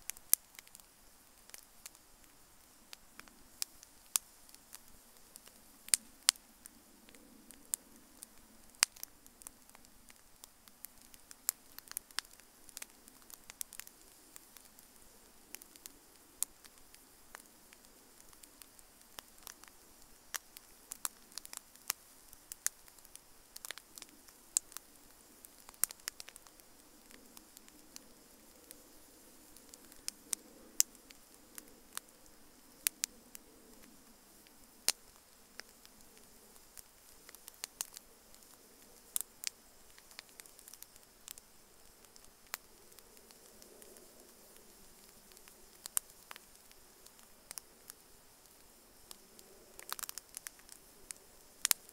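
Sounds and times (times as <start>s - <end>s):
campfire crackling: 0.0s - 51.9s
faint steady hiss: 0.0s - 51.9s.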